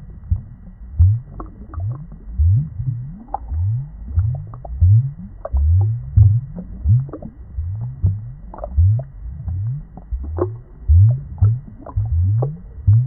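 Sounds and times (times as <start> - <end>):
underwater bubbling and gurgling: 0.0 - 13.0.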